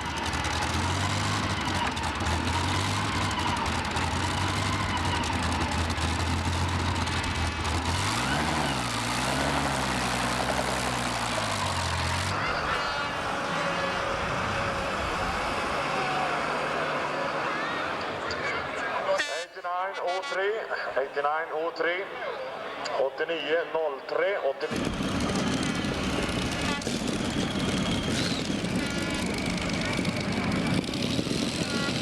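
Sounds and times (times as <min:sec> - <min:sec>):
heavy engine idling: 0:00.0 - 0:19.2, 0:24.6 - 0:32.0.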